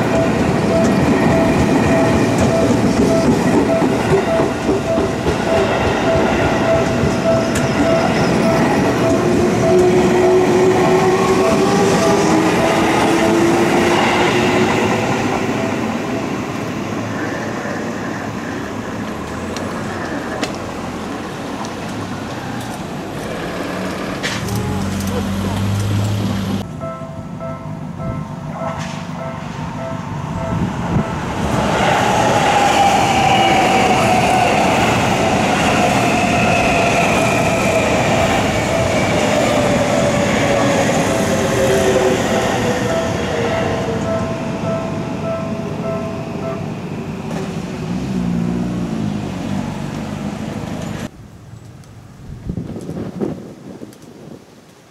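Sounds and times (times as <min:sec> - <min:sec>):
electric train passing: 0:00.0 - 0:51.1
wheels rumbling on rails: 0:00.0 - 0:54.9.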